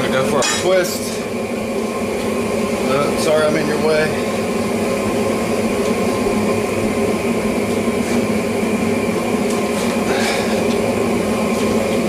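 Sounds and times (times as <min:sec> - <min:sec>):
gas burner rushing: 0:00.0 - 0:12.0.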